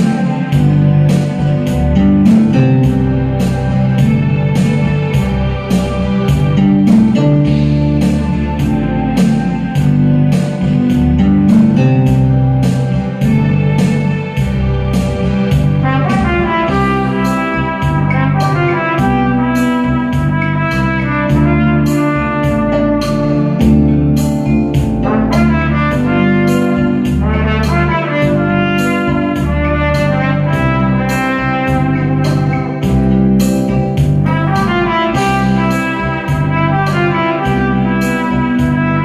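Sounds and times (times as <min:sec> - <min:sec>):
backing track with bass and beat: 0:00.0 - 0:39.0
trumpet melody: 0:00.0 - 0:39.0.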